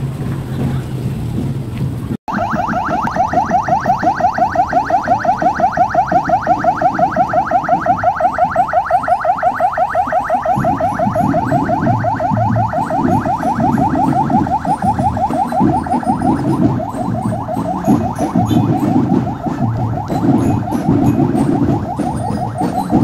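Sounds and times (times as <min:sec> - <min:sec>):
police siren yelping: 0:02.3 - 0:23.0.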